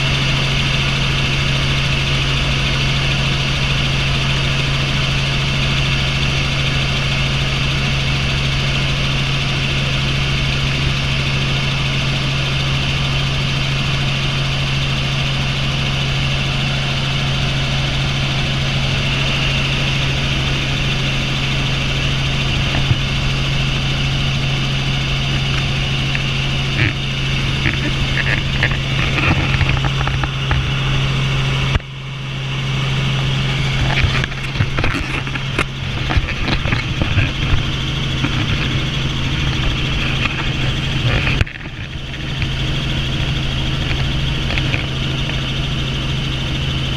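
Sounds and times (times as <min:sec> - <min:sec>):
helicopter engine and rotors droning: 0:00.0 - 0:46.9
high turbine whine: 0:00.0 - 0:46.9.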